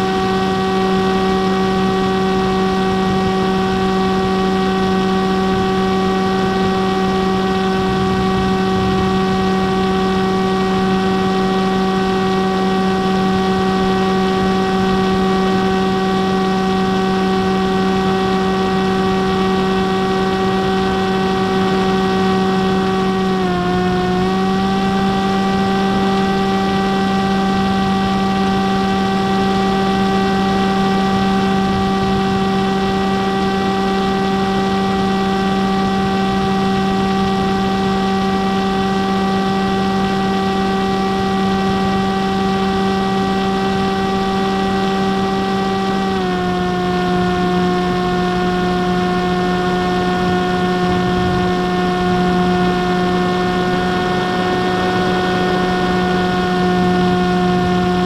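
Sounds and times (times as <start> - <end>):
electric motor and propeller hum: 0.0 - 58.0.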